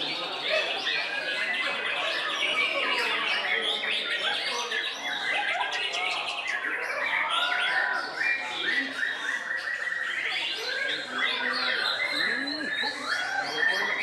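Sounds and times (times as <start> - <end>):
other songbirds singing: 0.0 - 14.0.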